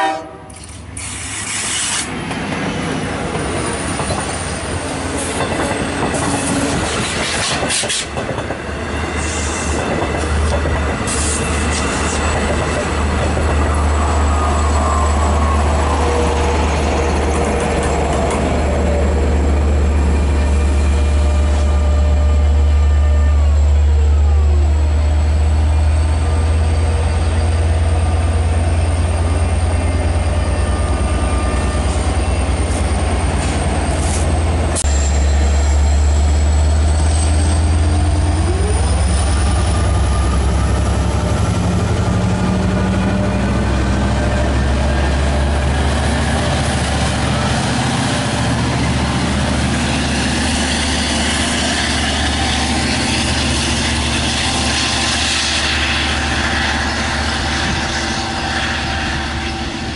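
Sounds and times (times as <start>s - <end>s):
diesel locomotive engine drone: 0.0s - 59.9s
train coaches rolling on rails: 0.4s - 59.9s.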